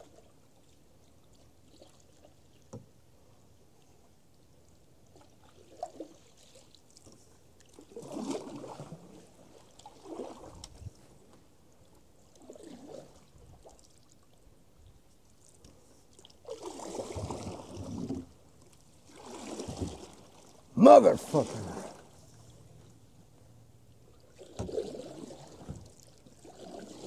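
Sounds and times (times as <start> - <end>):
paddle splashing in water: 0.0 - 2.7, 5.1 - 14.3, 15.4 - 23.0, 24.1 - 27.0.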